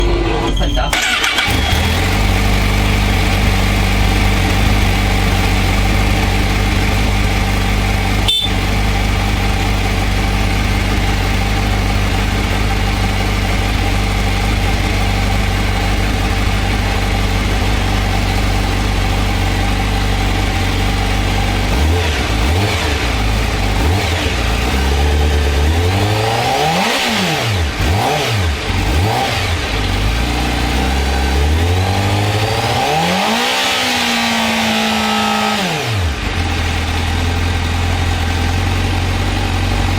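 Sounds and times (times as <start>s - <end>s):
motorcycle engine revving: 0.0s - 39.9s
motorcycle engine idling: 1.0s - 32.7s, 34.3s - 39.9s.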